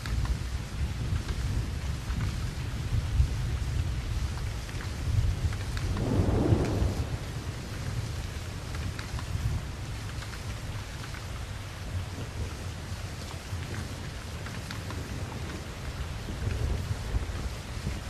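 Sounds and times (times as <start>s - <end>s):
rain falling: 0.0s - 18.0s
low thunder rumble: 0.4s - 18.0s.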